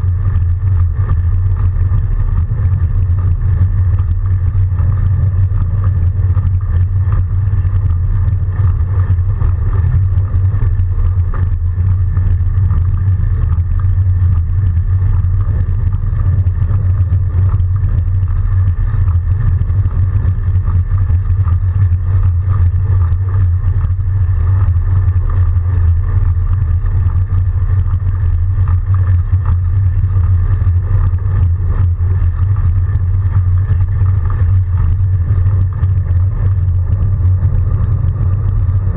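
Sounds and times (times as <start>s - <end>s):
electric motor hum: 0.0s - 38.9s
low rumble of bike through snow: 0.0s - 38.9s.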